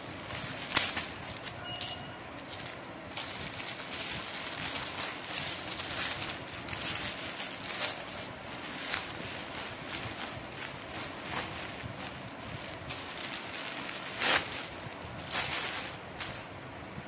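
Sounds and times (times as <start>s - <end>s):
parcel wrapping crinkling and tearing: 0.0s - 1.6s, 2.4s - 16.6s.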